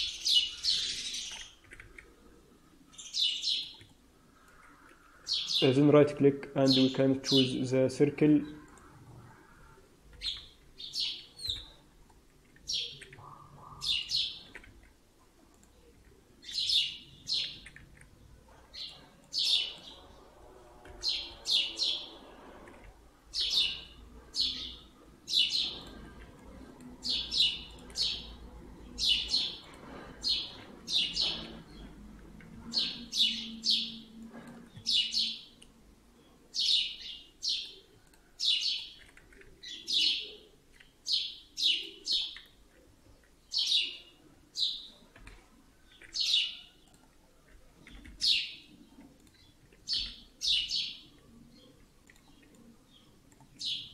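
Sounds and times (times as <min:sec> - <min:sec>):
bird chirping: 0:00.0 - 0:01.9, 0:02.9 - 0:05.8, 0:10.2 - 0:11.9, 0:12.5 - 0:14.6, 0:15.6 - 0:22.7, 0:23.3 - 0:26.2, 0:26.9 - 0:35.6, 0:36.2 - 0:45.1, 0:45.8 - 0:47.0, 0:47.8 - 0:53.9.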